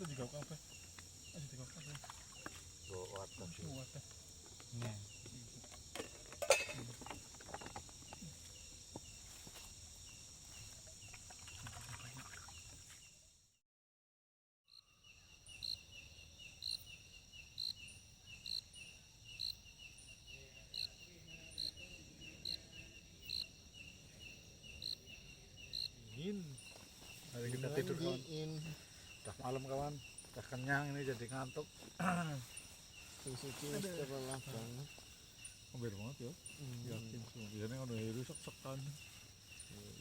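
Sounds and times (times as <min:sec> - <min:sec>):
crickets trilling: 0:00.0 - 0:13.5, 0:14.7 - 0:40.0
crickets chirping rhythmically: 0:00.0 - 0:13.6, 0:14.7 - 0:40.0.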